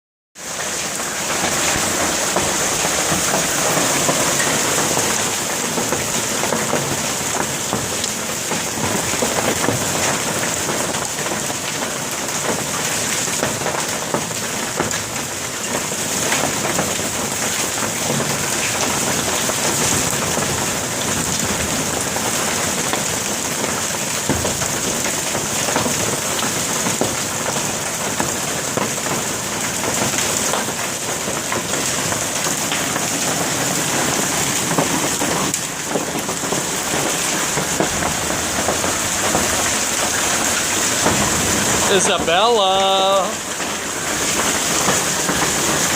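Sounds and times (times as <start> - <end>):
hail and rain pelting: 0.4 - 45.9.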